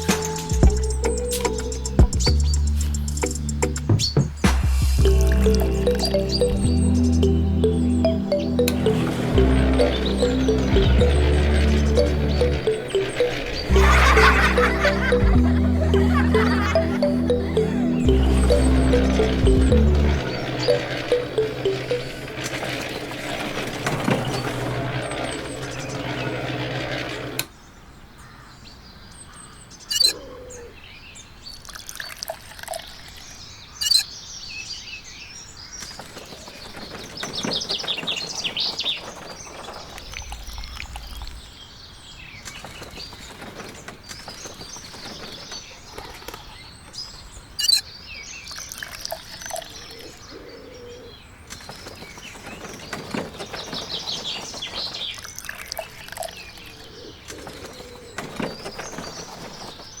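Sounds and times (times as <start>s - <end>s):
birds chirping in trills: 0.0s - 60.0s.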